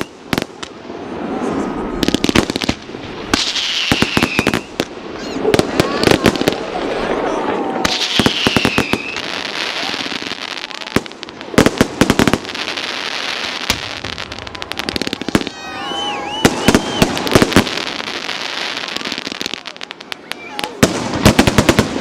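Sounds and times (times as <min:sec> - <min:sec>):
fireworks whistles: 0:00.0 - 0:06.6, 0:07.8 - 0:11.0, 0:11.6 - 0:22.0
fireworks bangs: 0:00.0 - 0:22.0
fireworks crackle: 0:00.0 - 0:22.0.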